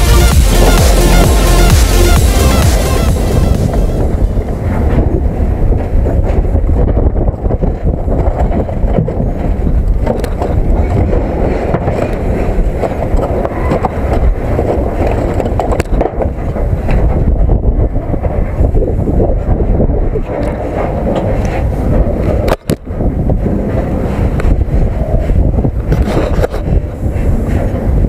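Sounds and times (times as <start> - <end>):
train rumble and rattle: 0.0 - 28.0
wind buffeting microphone: 0.0 - 28.0.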